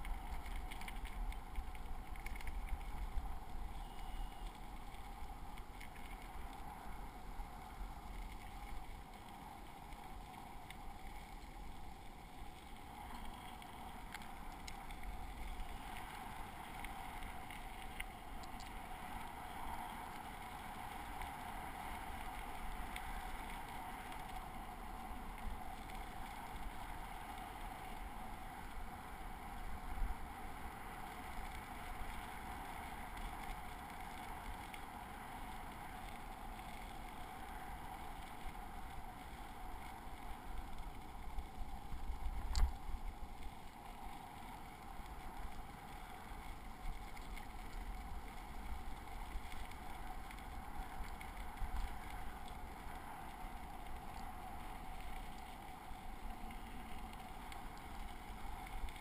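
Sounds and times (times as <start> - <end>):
bicycle tyres rolling on gravel: 0.0 - 59.0.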